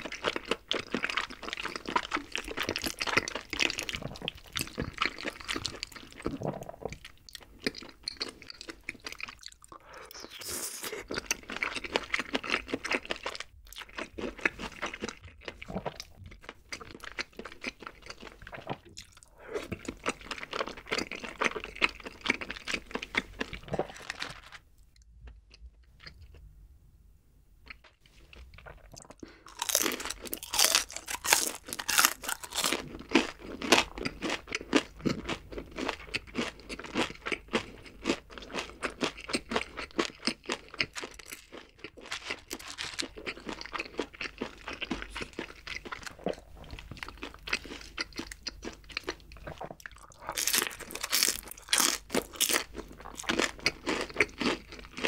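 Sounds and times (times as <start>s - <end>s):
chewing crunchy fried food: 0.0s - 26.4s, 27.6s - 55.0s.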